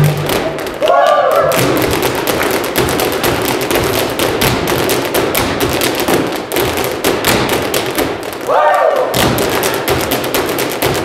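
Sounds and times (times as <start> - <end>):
hard-shoe dancing taps: 1.5 - 11.0.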